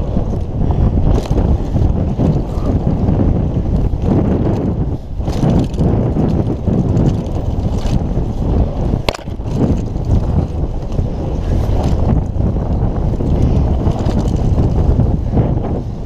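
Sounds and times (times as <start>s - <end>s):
bike tyres rumbling on dirt: 0.0s - 16.0s
wind buffeting microphone: 0.0s - 16.0s.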